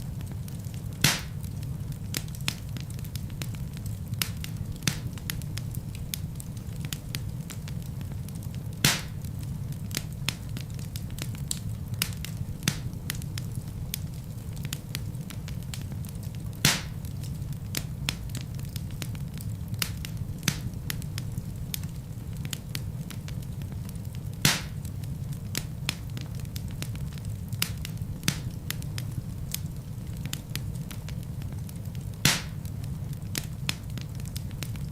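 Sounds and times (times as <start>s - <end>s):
burning logs crackling and popping: 0.0s - 34.9s
flames rumbling in fireplace: 0.0s - 34.9s.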